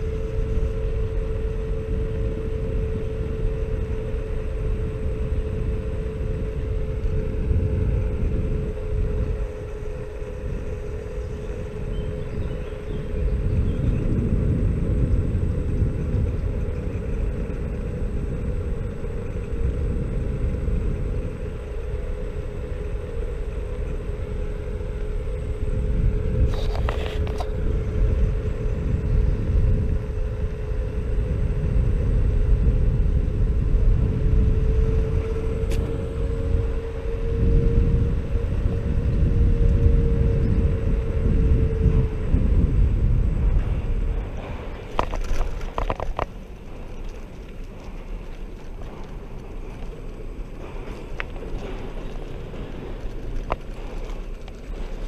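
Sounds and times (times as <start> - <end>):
electric motor whine: 0.0 - 55.0
wind and tyres rumbling: 0.0 - 55.0.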